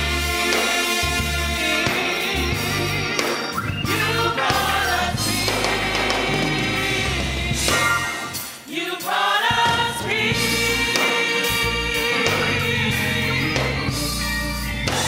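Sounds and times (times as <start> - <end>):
low bass notes: 0.0 - 8.4, 10.3 - 15.0
gospel choir singing: 0.0 - 15.0.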